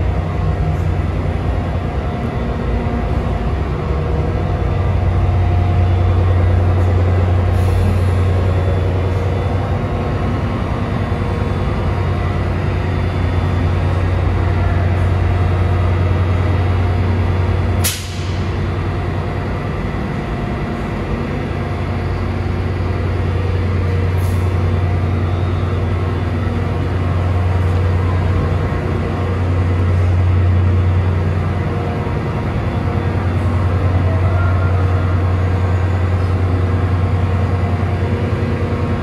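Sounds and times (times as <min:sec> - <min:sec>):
locomotive low hum: 0:00.0 - 0:39.0.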